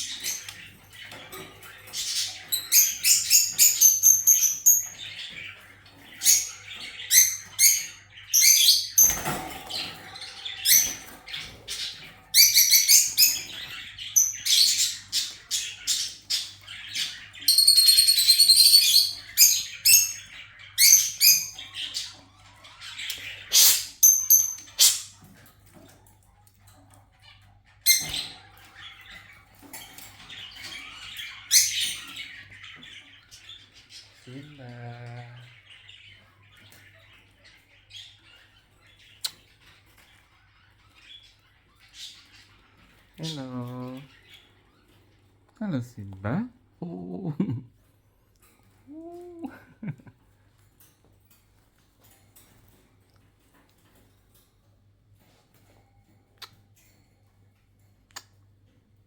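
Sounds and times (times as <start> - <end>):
parakeets chattering: 0.0 - 53.4.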